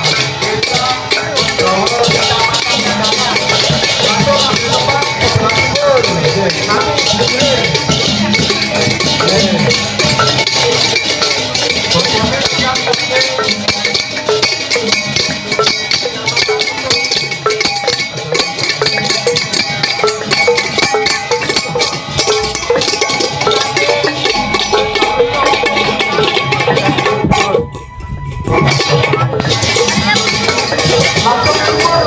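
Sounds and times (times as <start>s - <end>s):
metal bells and gongs percussion: 0.0s - 32.0s.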